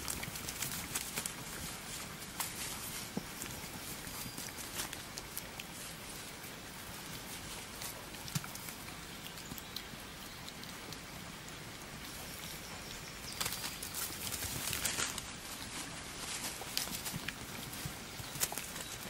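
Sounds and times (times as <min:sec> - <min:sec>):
piglets scuffling on soil: 0:00.0 - 0:19.0.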